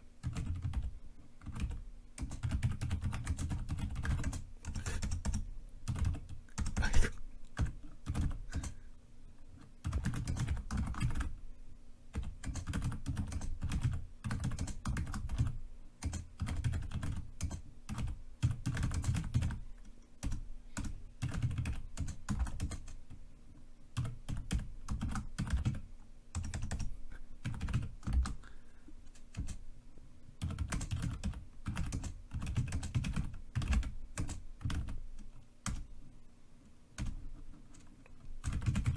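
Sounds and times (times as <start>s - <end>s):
typing on computer keyboard: 0.2s - 8.8s, 9.8s - 11.4s, 12.1s - 23.1s, 24.0s - 28.4s, 29.1s - 29.6s, 30.4s - 35.9s, 37.0s - 38.9s.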